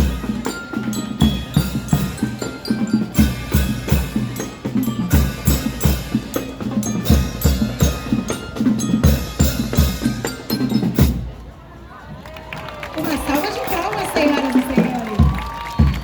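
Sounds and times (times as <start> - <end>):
marching band playing: 0.0 - 12.2, 12.8 - 16.0.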